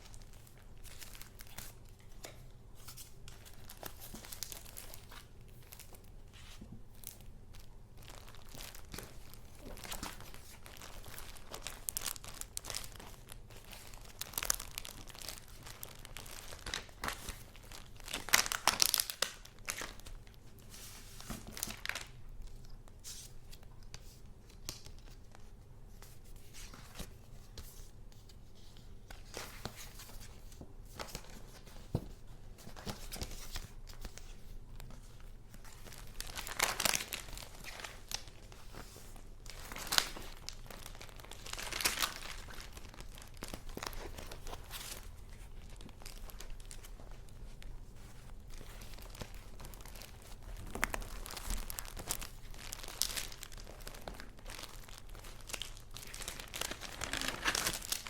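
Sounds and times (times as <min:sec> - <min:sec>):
paper rustling and crinkling: 0:00.0 - 0:58.0.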